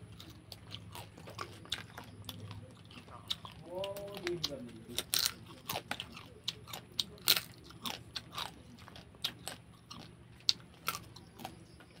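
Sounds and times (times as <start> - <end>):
crab shell crunching: 0.0 - 12.0.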